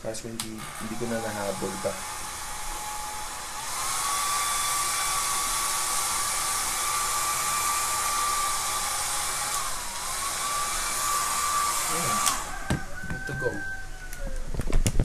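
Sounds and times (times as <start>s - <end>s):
hair dryer blowing: 0.6s - 13.7s.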